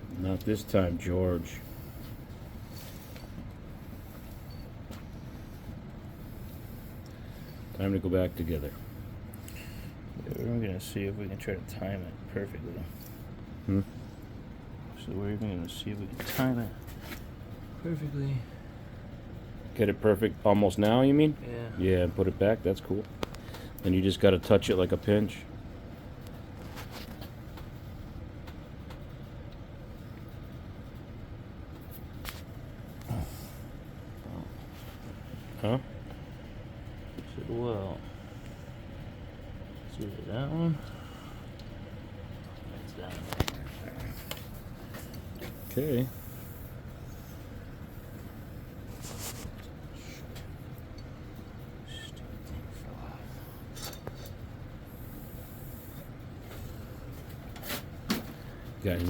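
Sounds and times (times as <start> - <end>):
low background hum: 0.0 - 59.0.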